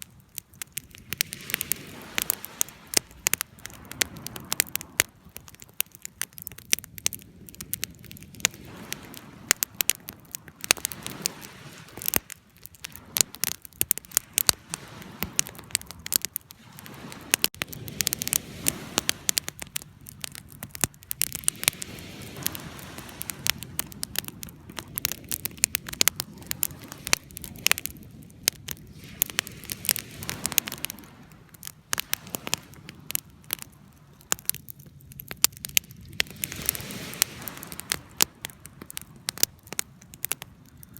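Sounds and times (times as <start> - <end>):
fire crackling and popping: 0.0 - 40.9
low rush of flame: 0.0 - 40.9.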